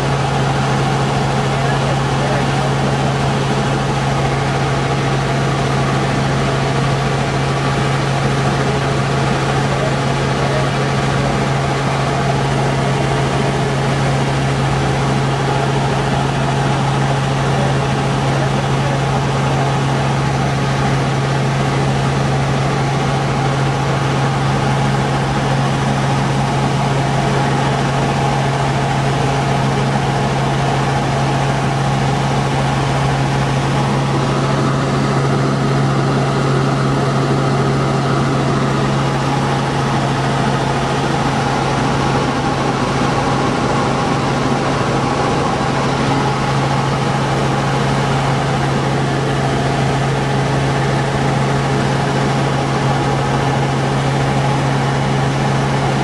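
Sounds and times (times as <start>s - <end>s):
helicopter engine and rotors hum: 0.0s - 56.0s.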